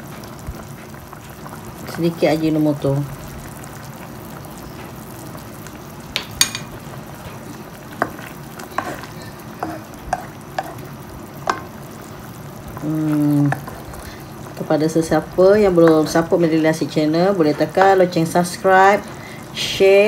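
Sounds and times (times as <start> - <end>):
broth simmering and bubbling: 0.0 - 20.0.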